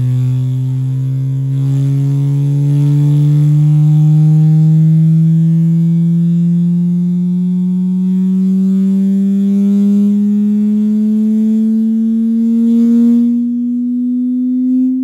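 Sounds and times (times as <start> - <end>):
rising bass test tone: 0.0 - 15.0.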